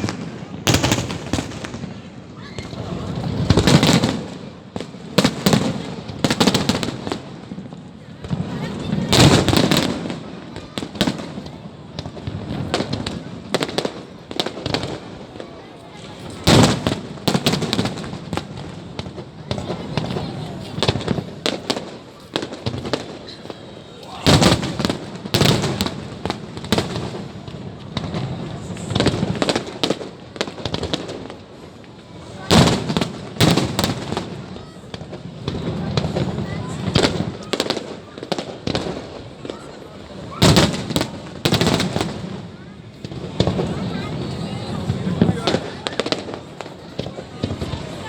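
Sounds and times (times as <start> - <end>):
fireworks bangs and cracks: 0.0 - 48.0.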